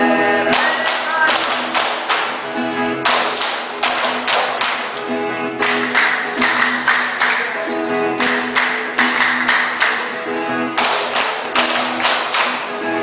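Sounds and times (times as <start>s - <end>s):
guitars strummed in rhythm: 0.0s - 13.0s.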